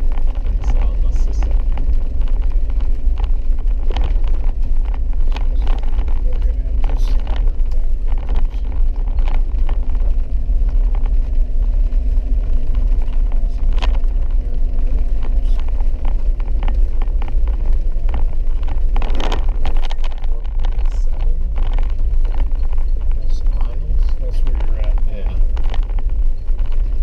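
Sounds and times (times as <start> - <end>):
engine drone: 0.0 - 27.0
knocks and rattles: 0.0 - 27.0
vehicle rumbling on dirt trail: 0.0 - 27.0.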